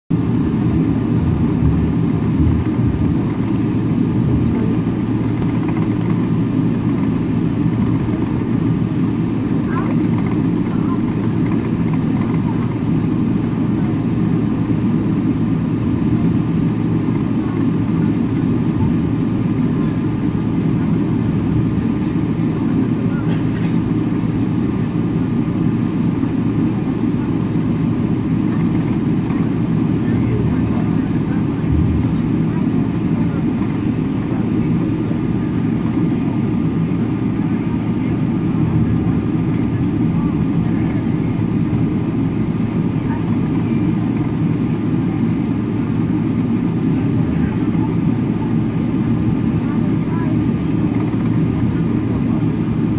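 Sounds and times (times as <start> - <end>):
jet engines rumbling in cabin: 0.1 - 52.9.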